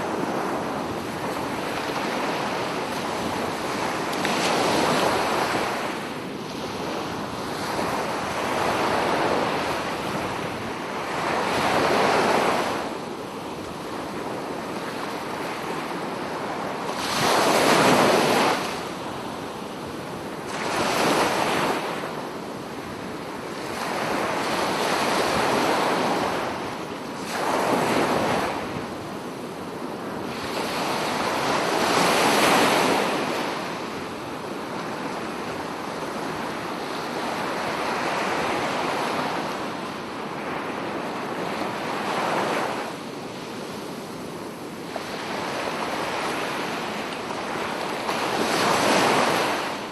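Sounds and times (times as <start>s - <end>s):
waves breaking and washing in: 0.0s - 49.9s.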